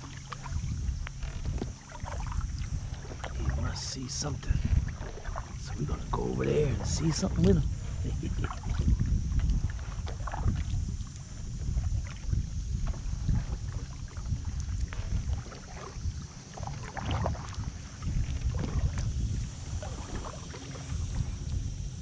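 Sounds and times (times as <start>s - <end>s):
paddle splashing in water: 0.0s - 21.7s
wind on microphone: 0.0s - 22.0s.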